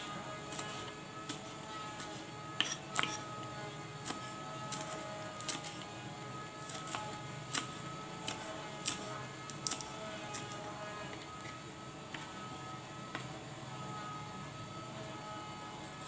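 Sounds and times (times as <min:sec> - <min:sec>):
kitchen hum: 0:00.0 - 0:14.4.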